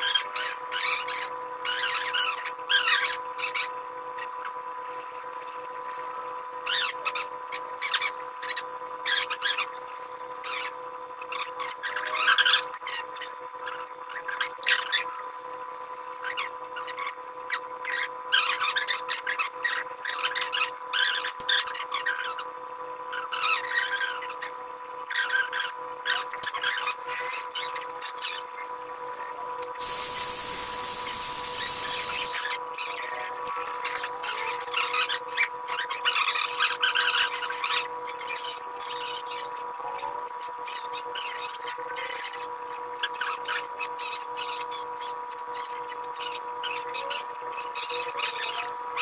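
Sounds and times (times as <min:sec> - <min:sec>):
faint steady whine: 0:00.0 - 0:49.0.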